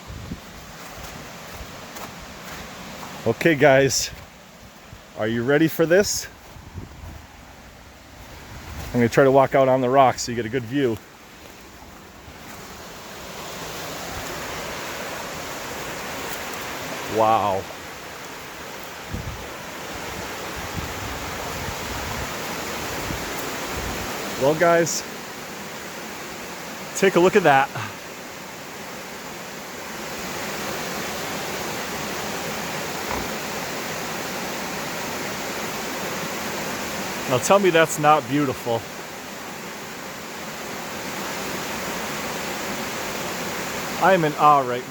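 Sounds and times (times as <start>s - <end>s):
waterfall roar: 0.0s - 44.9s.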